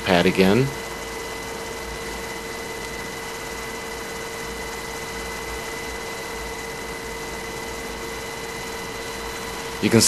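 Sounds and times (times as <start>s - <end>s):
constant whine: 0.0s - 10.0s
helicopter cabin noise: 0.0s - 10.0s.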